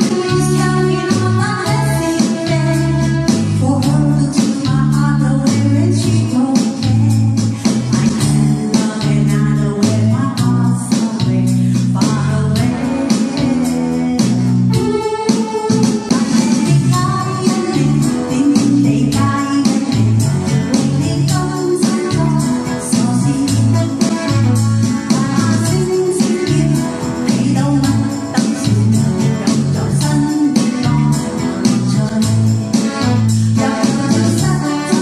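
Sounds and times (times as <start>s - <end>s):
keyboard accompaniment with beat: 0.0s - 35.0s
woman singing pop ballad: 0.0s - 35.0s.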